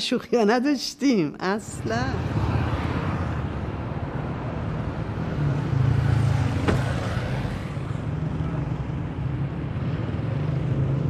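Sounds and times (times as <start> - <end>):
road noise: 0.0 - 11.0
vehicle engine rumble: 1.7 - 11.0.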